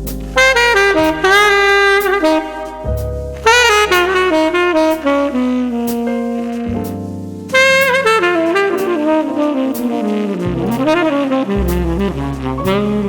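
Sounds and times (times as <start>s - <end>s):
low bass notes: 0.0s - 13.0s
saxophone playing jazz melody: 0.0s - 13.0s.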